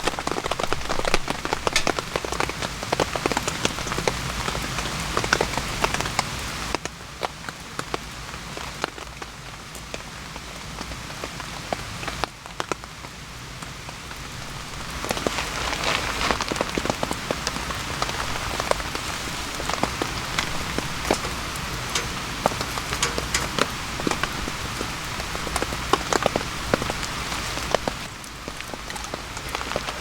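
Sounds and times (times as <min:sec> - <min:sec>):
raindrops ticking on surfaces: 0:00.0 - 0:30.0
steady rainfall: 0:00.0 - 0:30.0.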